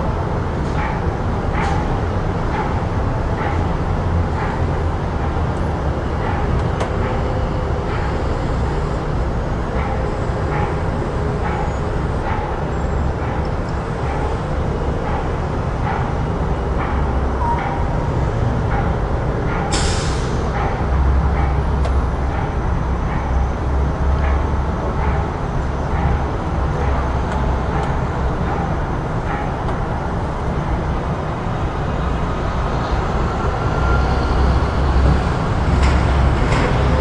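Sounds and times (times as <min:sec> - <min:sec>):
traffic rumble: 0:00.0 - 0:37.0.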